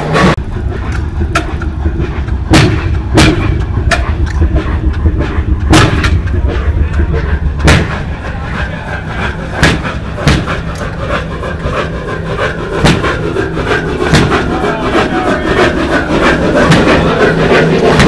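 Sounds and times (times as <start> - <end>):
engine exhaust reports: 0.0 - 18.0
low hum of machinery: 0.0 - 18.0.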